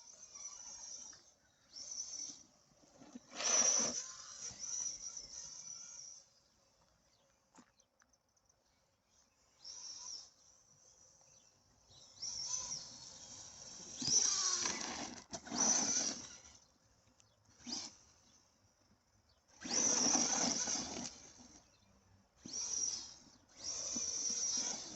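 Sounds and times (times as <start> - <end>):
rc truck motor whine: 0.0 - 24.9.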